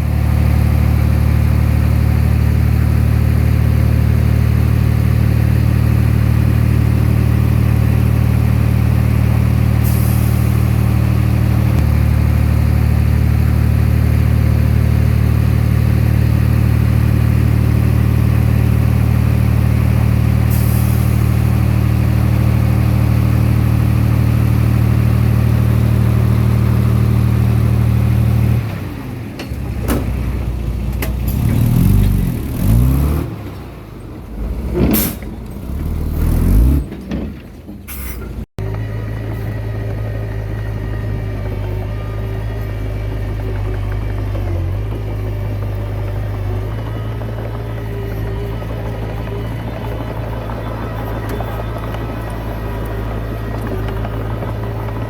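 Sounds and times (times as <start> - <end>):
diesel engine running at high throttle: 0.0 - 37.2, 37.9 - 55.0.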